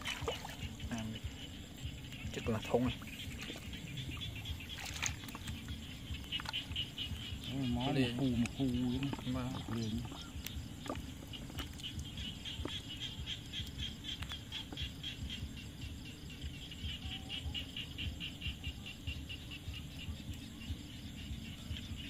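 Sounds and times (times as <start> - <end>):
low rumble of water: 0.0 - 22.0.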